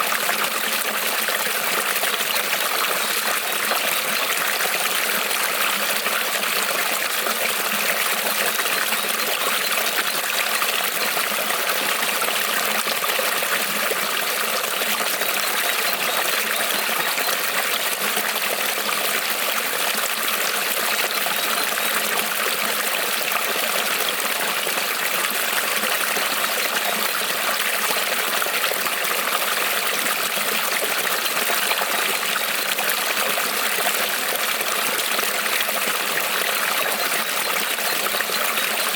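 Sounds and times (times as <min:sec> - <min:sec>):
creek trickling over stones: 0:00.0 - 0:38.9.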